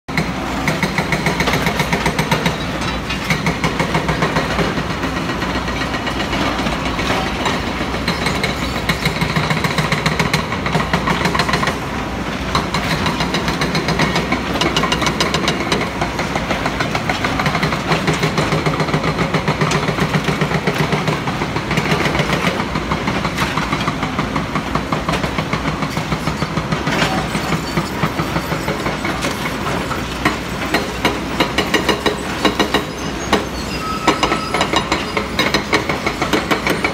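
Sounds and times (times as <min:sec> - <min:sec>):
diesel engines running: 0:00.1 - 0:36.9.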